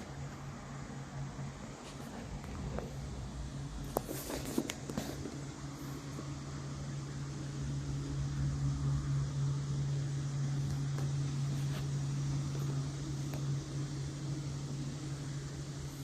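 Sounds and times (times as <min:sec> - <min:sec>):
motor humming: 0:00.0 - 0:16.0
soft hiss: 0:00.0 - 0:16.0.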